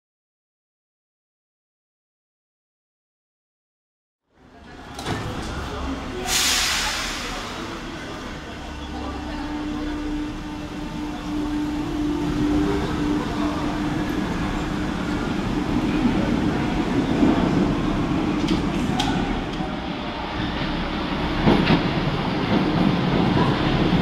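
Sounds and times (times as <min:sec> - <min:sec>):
train rumbling through station: 0:04.3 - 0:24.0.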